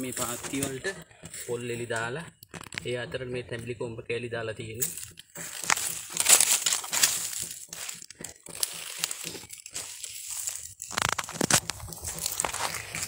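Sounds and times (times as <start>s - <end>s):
dry coconut husk crackling: 0.0s - 3.8s, 4.6s - 13.0s.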